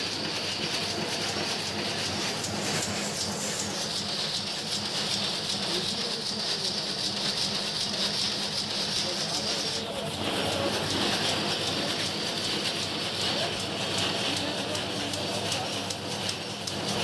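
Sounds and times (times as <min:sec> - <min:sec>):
loom mechanical clatter: 0:00.0 - 0:17.0.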